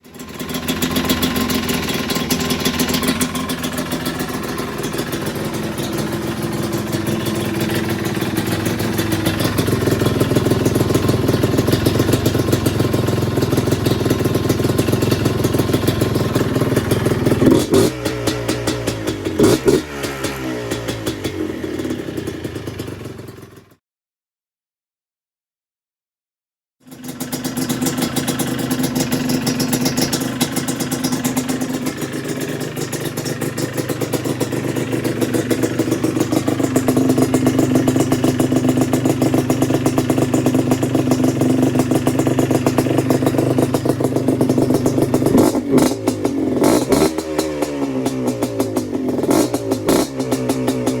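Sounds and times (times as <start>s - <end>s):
two-stroke engine revving: 0.0s - 23.6s, 27.0s - 51.0s.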